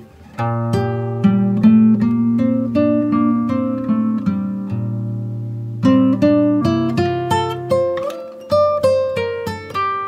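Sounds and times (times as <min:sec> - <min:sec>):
plucked acoustic guitar: 0:00.0 - 0:10.0.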